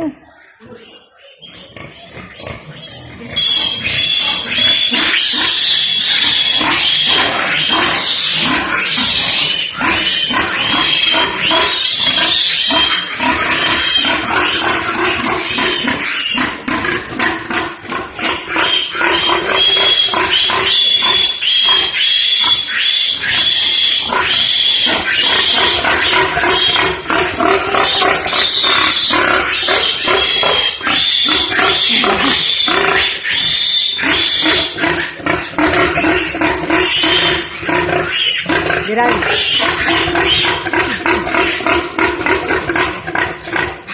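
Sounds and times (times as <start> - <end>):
pigs squealing loudly: 0.0 - 43.9.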